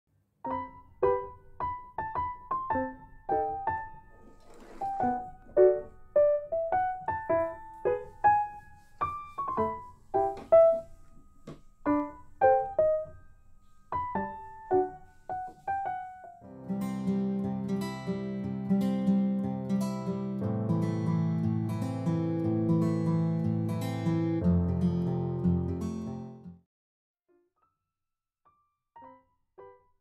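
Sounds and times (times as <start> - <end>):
gentle piano melody: 0.4 - 26.4.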